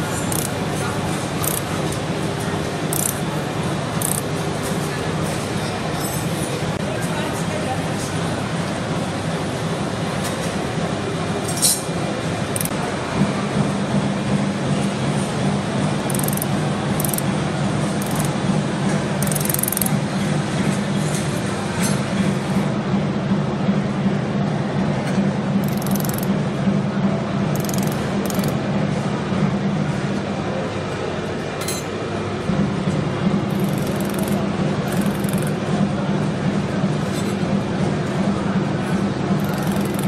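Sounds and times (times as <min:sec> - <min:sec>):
steady machine hum: 0:00.0 - 0:40.0.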